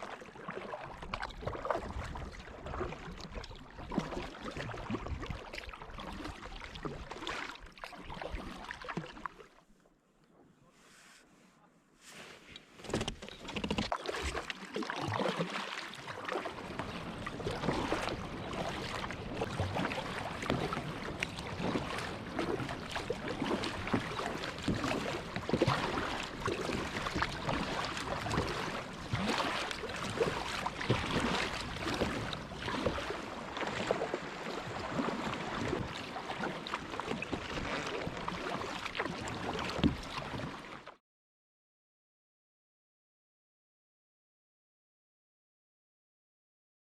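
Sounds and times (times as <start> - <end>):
water splashing around kayak: 0.0 - 41.0.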